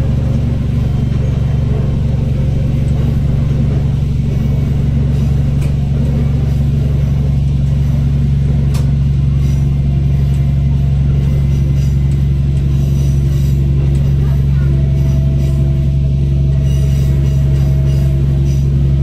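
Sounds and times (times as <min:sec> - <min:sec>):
diesel railcar engine drone: 0:00.0 - 0:19.0.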